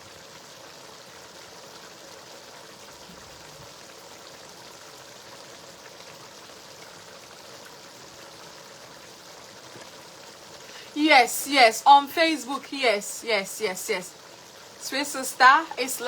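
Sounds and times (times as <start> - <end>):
faint crackles: 0.0 - 16.0
stew sizzling in pot: 0.0 - 16.0.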